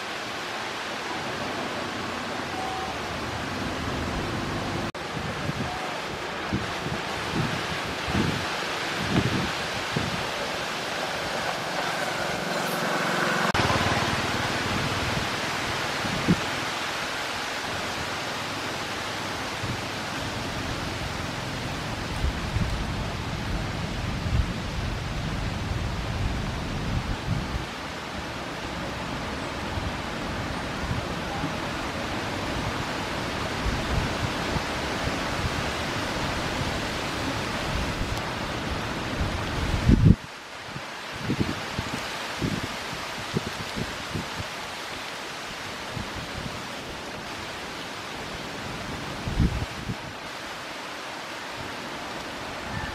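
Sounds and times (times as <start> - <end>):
wind hiss on microphone: 0.0 - 52.9.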